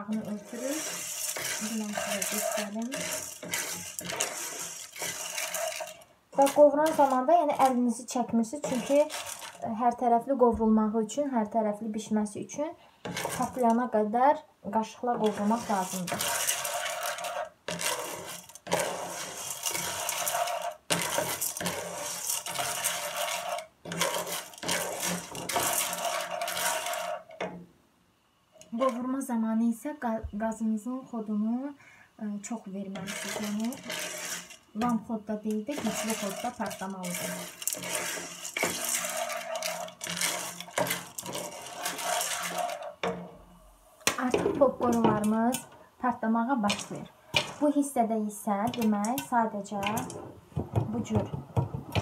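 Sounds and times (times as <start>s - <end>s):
popcorn kernels rattling in a pan: 0.0s - 10.1s, 13.0s - 14.0s, 15.0s - 27.6s, 28.6s - 29.4s, 32.5s - 43.3s, 44.0s - 52.0s.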